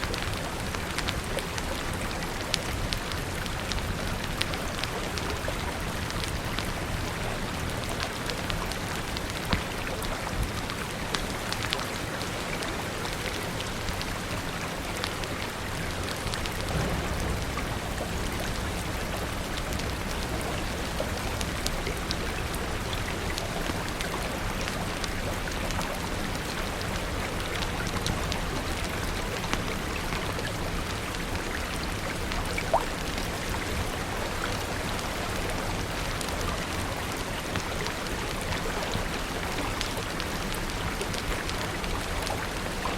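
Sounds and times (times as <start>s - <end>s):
fire crackling: 0.0s - 42.9s
rain pattering: 0.0s - 42.9s.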